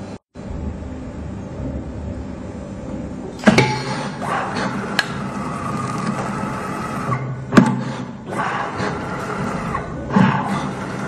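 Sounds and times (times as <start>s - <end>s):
machine whine: 0.0s - 11.0s.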